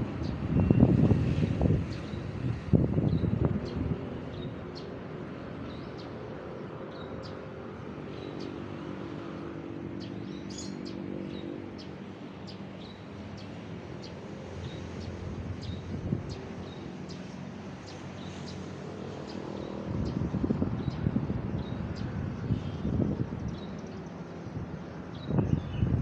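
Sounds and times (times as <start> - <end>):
small birds chirping: 4.3 - 26.0.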